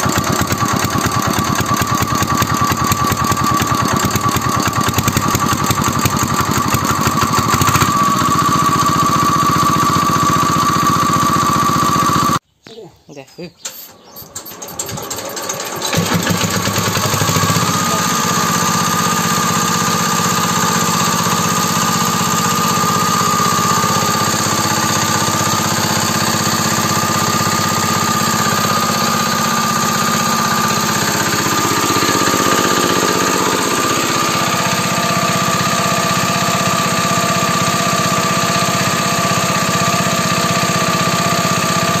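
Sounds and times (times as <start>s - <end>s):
small diesel engine running: 0.0s - 12.4s, 14.2s - 42.0s.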